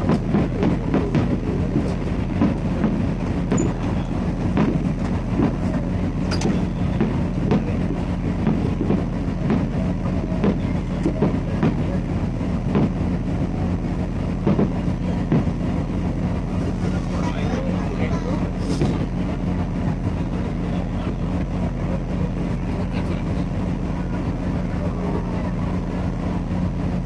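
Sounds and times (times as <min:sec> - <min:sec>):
vehicle engine rumble and hum: 0:00.0 - 0:27.0.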